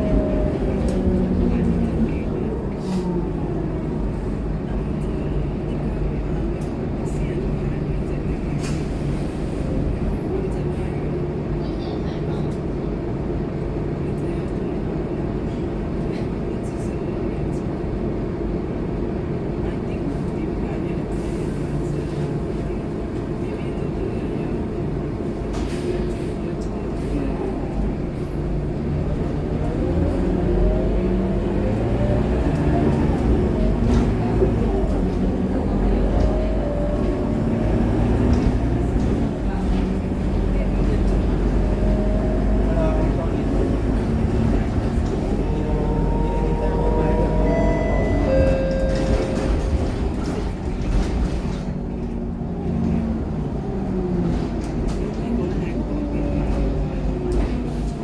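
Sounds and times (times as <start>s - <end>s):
road noise: 0.0s - 11.8s, 21.2s - 58.0s
bus diesel engine running: 0.0s - 58.0s.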